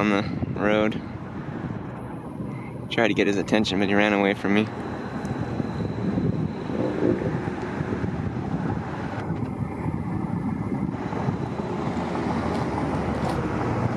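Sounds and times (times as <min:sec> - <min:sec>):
vehicle on the road: 0:00.0 - 0:13.9
wind rumbling on microphone: 0:00.0 - 0:13.9.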